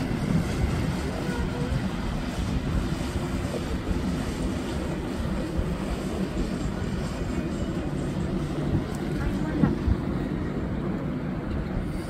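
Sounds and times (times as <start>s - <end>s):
boat wake on water: 0.0s - 12.0s
motorboat engine rumble: 0.0s - 12.0s
wind buffeting microphone: 0.0s - 12.0s.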